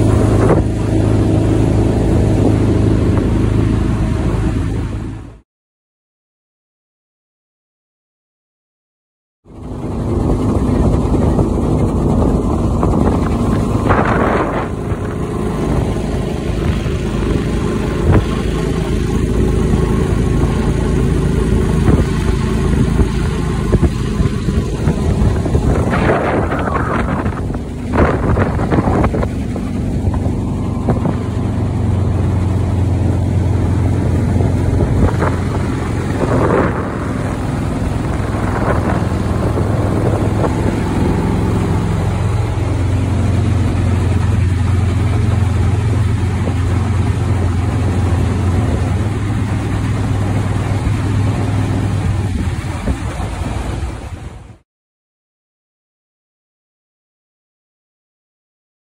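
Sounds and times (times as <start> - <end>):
boat motor running: 0.0 - 5.4, 9.5 - 54.6.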